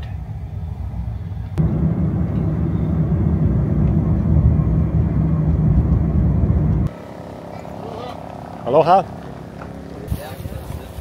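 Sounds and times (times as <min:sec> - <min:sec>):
road and wind noise in cab: 0:00.0 - 0:11.0.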